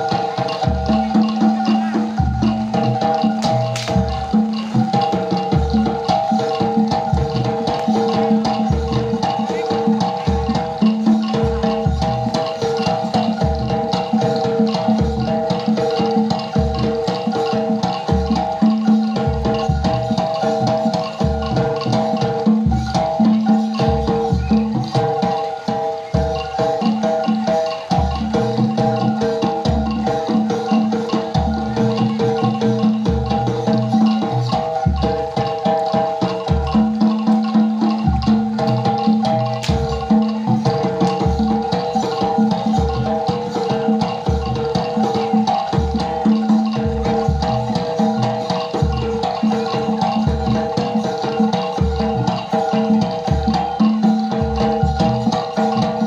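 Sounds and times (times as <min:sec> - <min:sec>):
ringing bronze metallophones: 0:00.0 - 0:56.0
steady drum strokes: 0:00.0 - 0:56.0.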